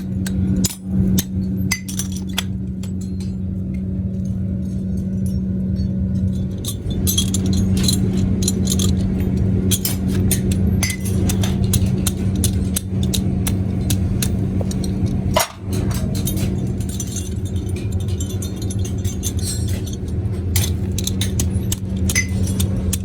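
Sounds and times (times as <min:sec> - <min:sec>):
factory machinery humming: 0:00.0 - 0:23.0
small metal parts clinking: 0:00.0 - 0:23.0.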